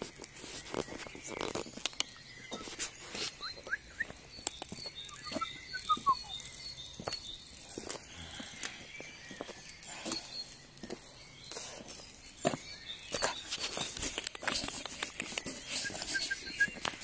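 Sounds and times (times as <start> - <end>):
clicks and rustles: 0.0 - 8.0, 10.8 - 17.0
small birds chirping: 0.0 - 17.0.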